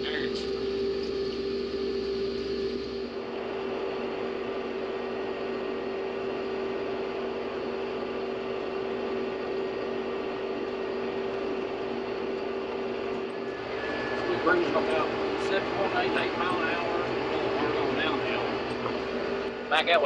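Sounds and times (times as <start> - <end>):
cab fan hum: 0.0 - 20.0
farm machine engine drone: 0.0 - 20.0.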